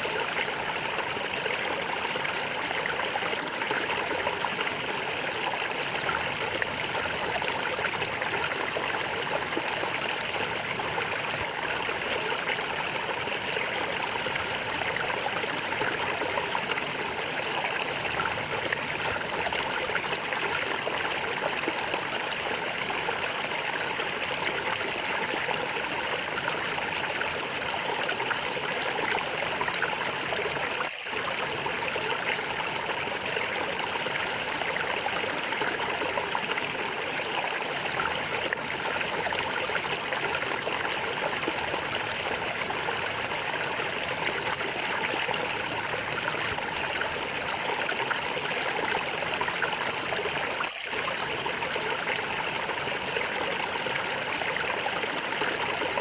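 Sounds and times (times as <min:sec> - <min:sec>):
small stream gurgling: 0:00.0 - 0:56.0.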